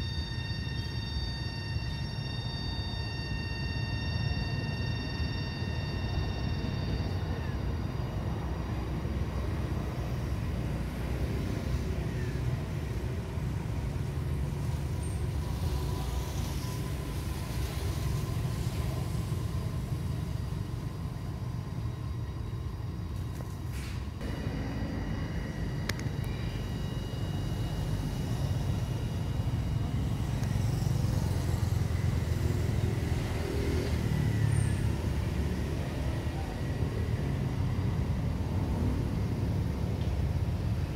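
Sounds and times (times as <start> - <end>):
faint high-pitched whine: 0.0 - 40.9
low outdoor rumble: 0.0 - 40.9.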